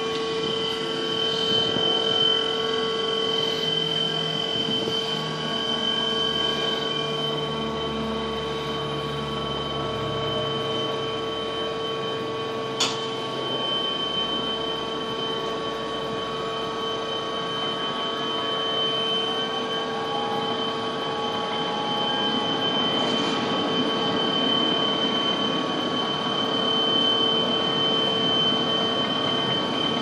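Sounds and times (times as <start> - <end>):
crane machinery hum and whine: 0.0 - 30.0.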